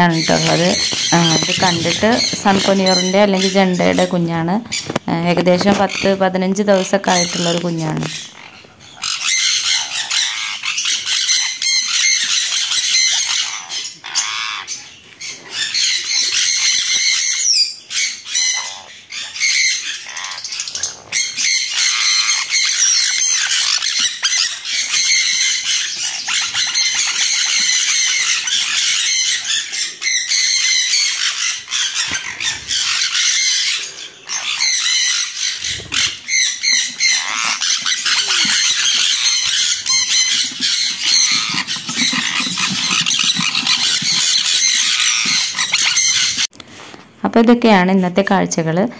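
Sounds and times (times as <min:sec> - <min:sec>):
parrots screeching: 0:00.1 - 0:04.0, 0:06.8 - 0:46.5.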